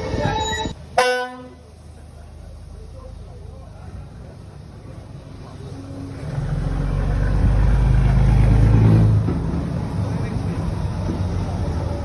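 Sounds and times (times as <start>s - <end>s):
heavy engine running: 0.8s - 12.0s.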